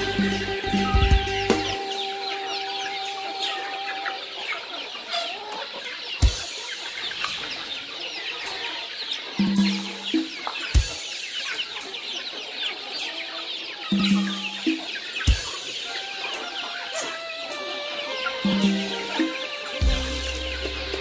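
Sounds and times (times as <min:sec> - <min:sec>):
chicks cheeping and clucking: 0:00.0 - 0:21.0.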